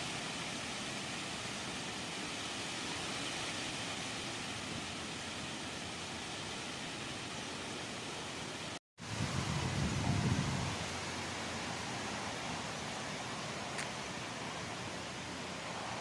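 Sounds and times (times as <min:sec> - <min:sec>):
strong wind hissing: 0:00.0 - 0:16.0.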